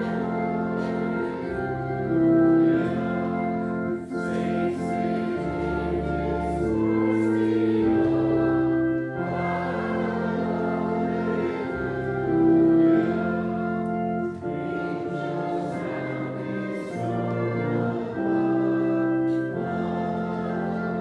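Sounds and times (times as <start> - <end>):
congregation singing a hymn: 0.0 - 21.0
organ: 0.0 - 21.0.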